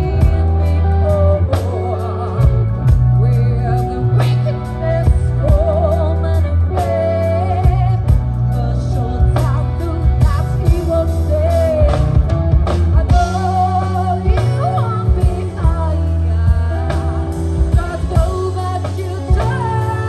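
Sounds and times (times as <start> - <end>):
held bass notes: 0.0 - 20.0
person singing: 0.0 - 20.0.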